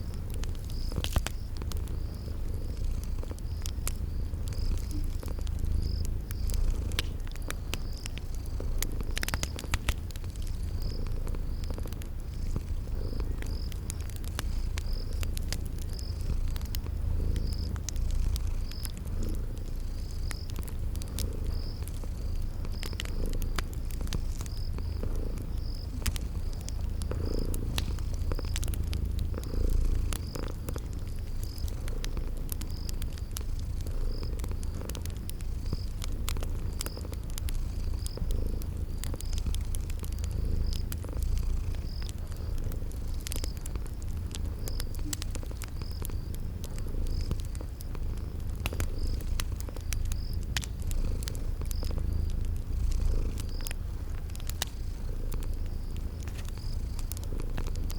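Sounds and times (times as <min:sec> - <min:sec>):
cat purring: 0:00.0 - 0:57.9
crickets chirping: 0:00.0 - 0:57.9
wood fire crackling: 0:00.0 - 0:57.9.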